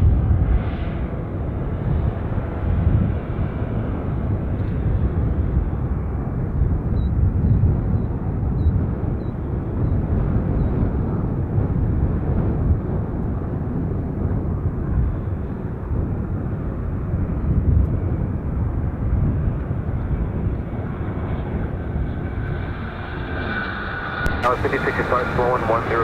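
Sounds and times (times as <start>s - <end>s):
jet aircraft rumble: 0.0s - 26.0s.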